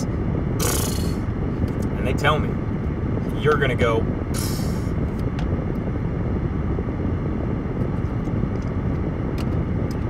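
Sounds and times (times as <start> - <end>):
car engine low rumble: 0.0 - 10.0.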